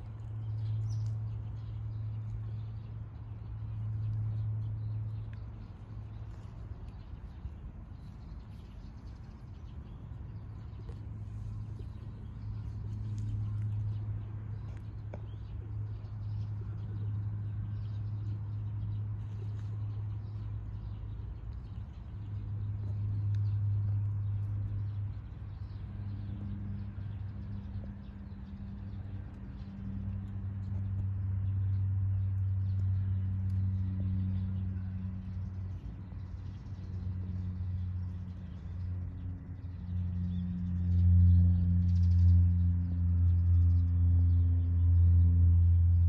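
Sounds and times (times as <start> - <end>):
low droning hum: 0.0 - 46.0.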